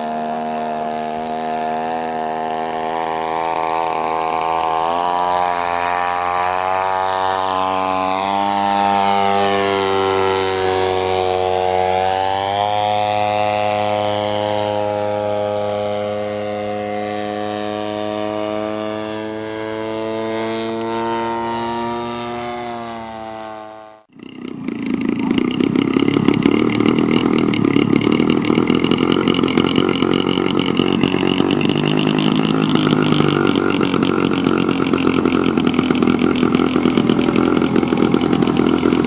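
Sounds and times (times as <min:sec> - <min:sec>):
model airplane engine and propeller: 0:00.0 - 0:39.0.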